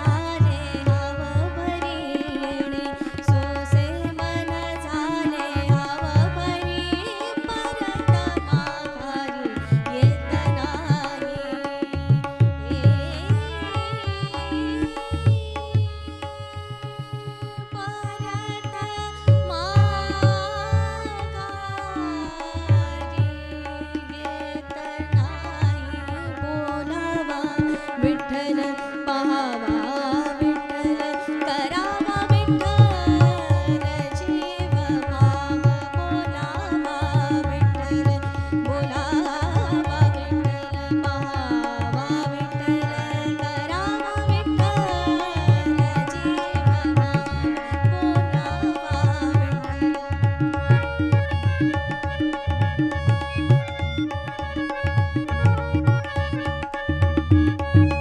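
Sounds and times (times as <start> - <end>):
woman singing: 0.0 - 56.7
harmonium: 0.0 - 58.0
tabla: 0.0 - 58.0.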